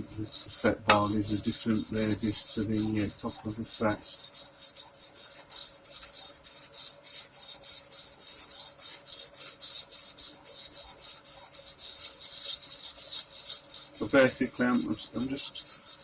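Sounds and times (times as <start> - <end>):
sandpaper scratching metal frets: 0.0 - 16.0.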